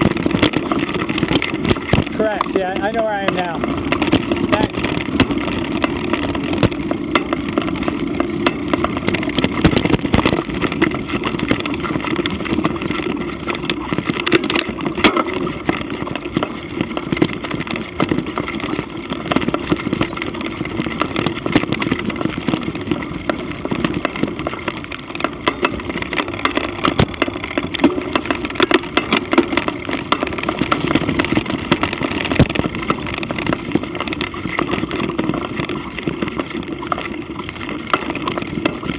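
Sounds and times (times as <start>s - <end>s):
bike rattling clicks and knocks: 0.0s - 38.9s
bike tyres rumbling on dirt: 0.0s - 38.9s
wind: 0.0s - 38.9s.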